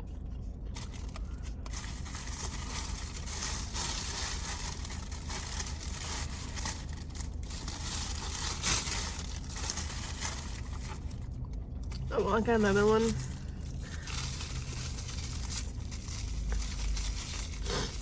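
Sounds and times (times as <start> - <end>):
low hum: 0.0 - 18.0
food packaging rustling: 0.7 - 11.5, 12.5 - 18.0.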